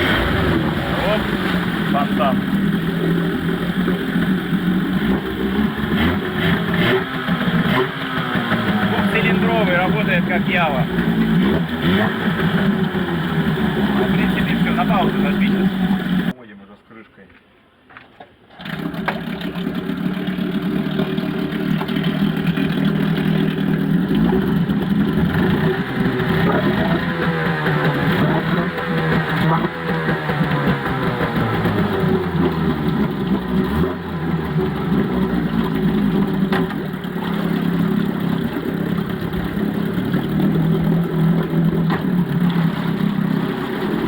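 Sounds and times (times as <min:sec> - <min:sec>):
outboard motor running: 0:00.0 - 0:16.3, 0:18.5 - 0:44.0.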